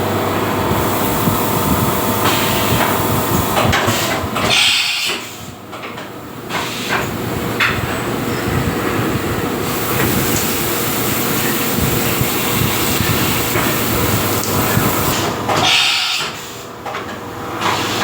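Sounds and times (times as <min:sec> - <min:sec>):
machine running: 0:00.0 - 0:05.6, 0:06.3 - 0:16.2.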